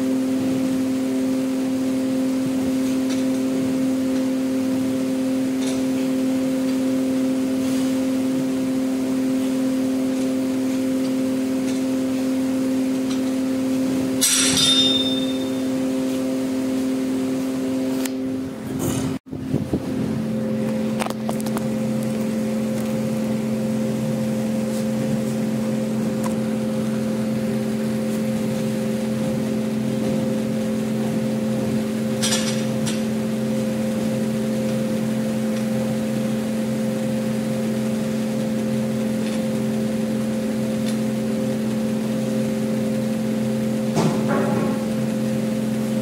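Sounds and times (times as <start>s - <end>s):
exhaust fan motor hum: 0.0s - 46.0s.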